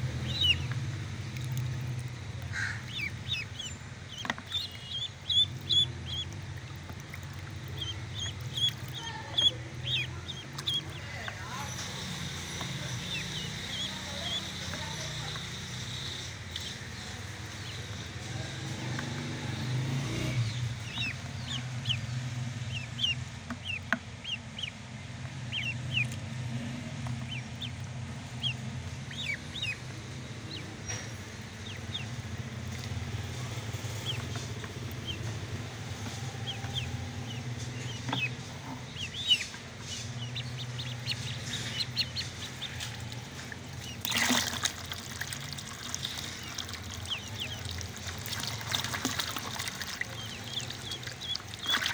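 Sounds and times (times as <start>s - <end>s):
ducklings peeping: 0.0s - 51.9s.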